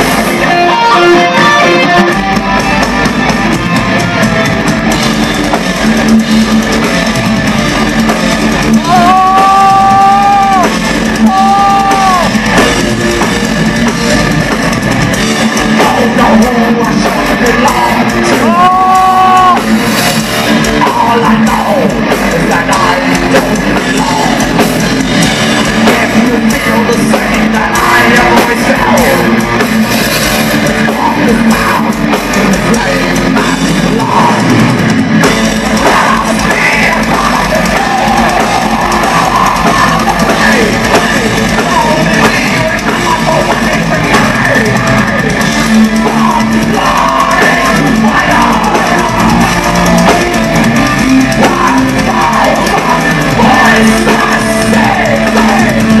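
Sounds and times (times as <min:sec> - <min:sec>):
thrash metal band playing live: 0:00.0 - 0:56.0.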